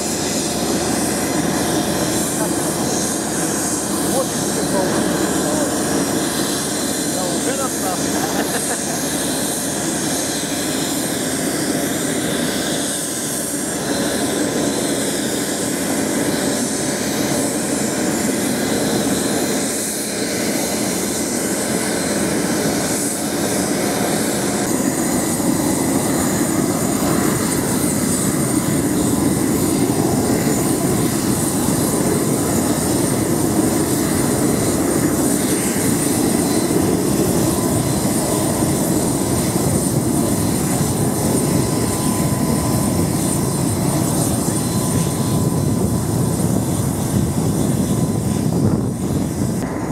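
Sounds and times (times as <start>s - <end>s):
jet engines whining: 0.0s - 49.9s.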